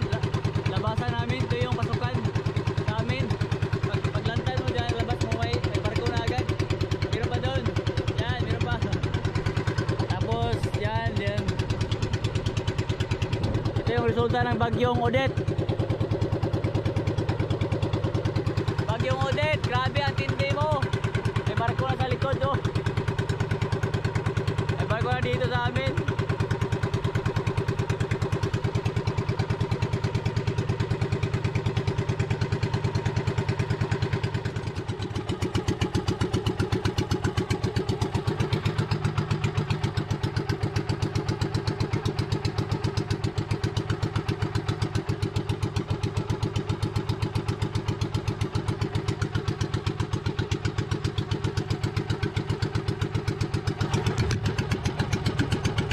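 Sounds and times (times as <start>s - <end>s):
boat engine puttering: 0.0s - 55.9s.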